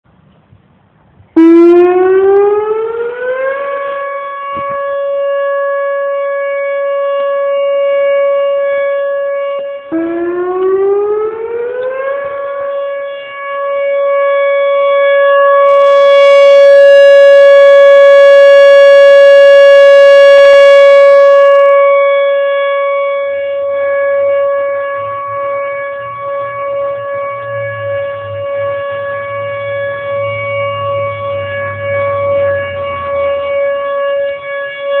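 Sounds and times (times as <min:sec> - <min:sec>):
electronic warning siren: 0:01.3 - 0:35.0.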